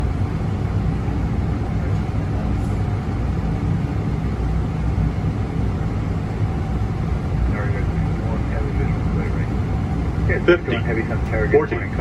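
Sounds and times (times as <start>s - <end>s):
airflow and engine rumble in cockpit: 0.0s - 12.0s.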